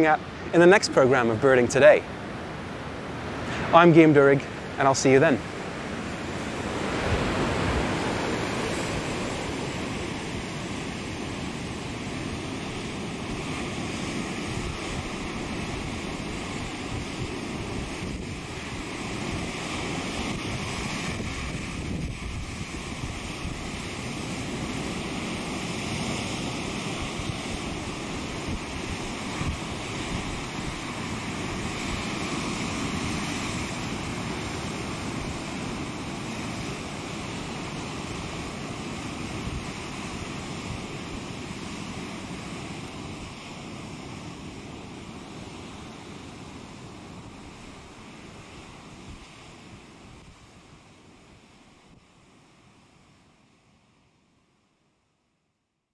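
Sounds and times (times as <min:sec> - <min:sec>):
rushing outdoor ambience: 0:00.0 - 0:53.7.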